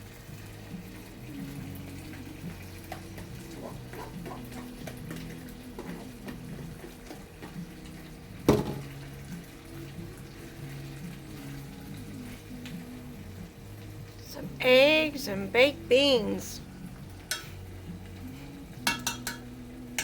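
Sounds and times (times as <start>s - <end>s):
quiet background music: 0.0s - 20.0s.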